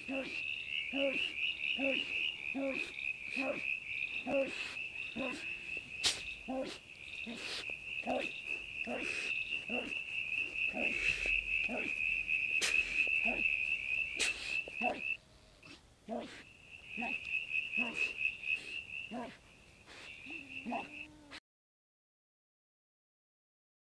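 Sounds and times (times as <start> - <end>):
low croak: 0.0 - 19.3, 19.9 - 21.4
insects chirring: 0.0 - 21.4.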